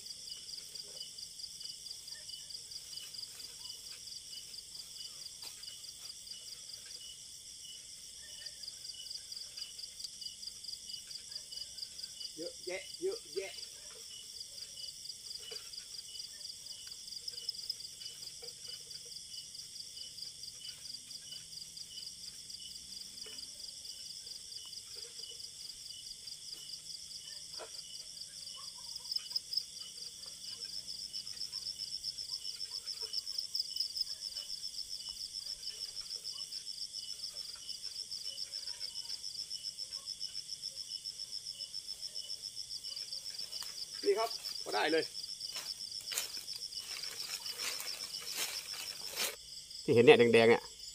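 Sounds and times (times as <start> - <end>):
night insects trilling: 0.0 - 50.9.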